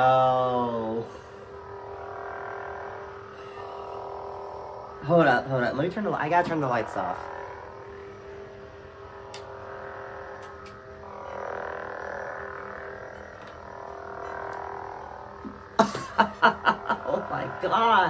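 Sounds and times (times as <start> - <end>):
lightsaber electric hum: 0.0 - 18.0.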